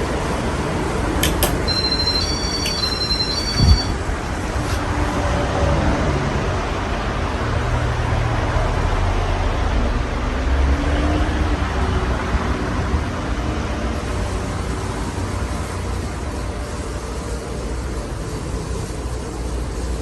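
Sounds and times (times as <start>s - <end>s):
ceiling fan air rush: 0.0s - 10.6s, 11.3s - 20.0s.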